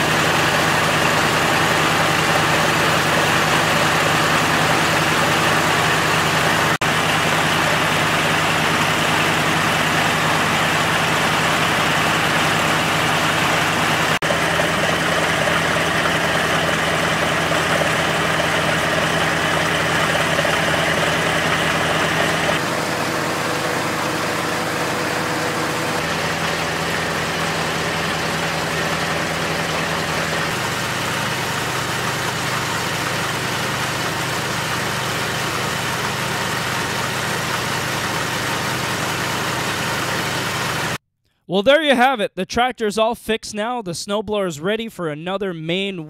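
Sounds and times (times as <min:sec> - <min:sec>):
snowblower engine running: 0:00.0 - 0:41.0.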